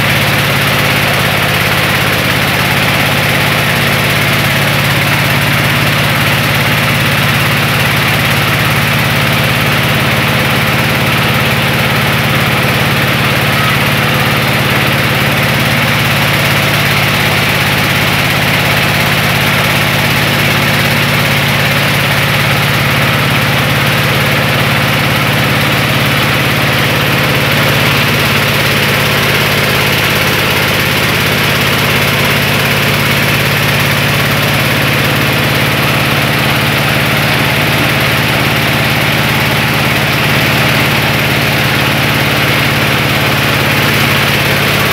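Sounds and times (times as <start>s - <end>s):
rice huller machine humming: 0.0s - 44.9s.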